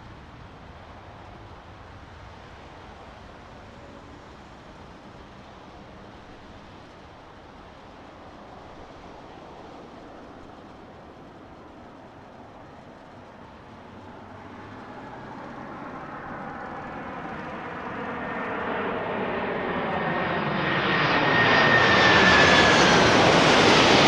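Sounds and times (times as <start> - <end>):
distant jet engine rumble: 0.0 - 24.0.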